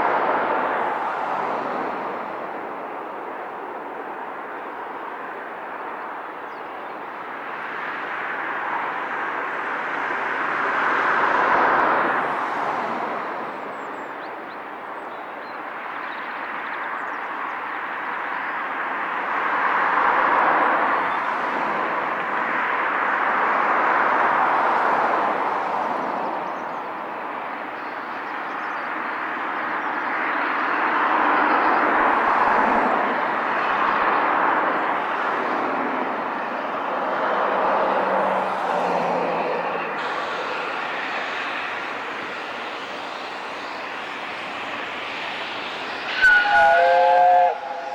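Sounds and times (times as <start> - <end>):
road traffic passing: 0.0 - 6.4, 7.0 - 15.0, 16.4 - 47.9.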